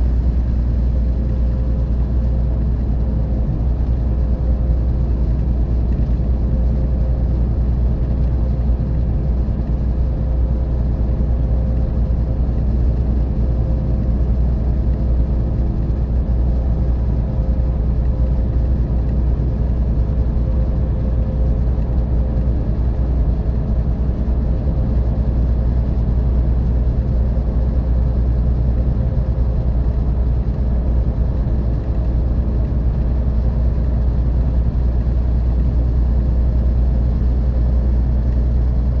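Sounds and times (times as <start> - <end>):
diesel coach engine rumble: 0.0 - 39.0.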